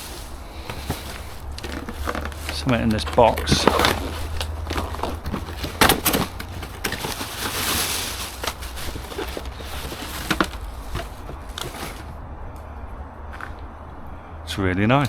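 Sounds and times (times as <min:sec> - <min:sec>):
cardboard box rustling: 0:00.0 - 0:12.2.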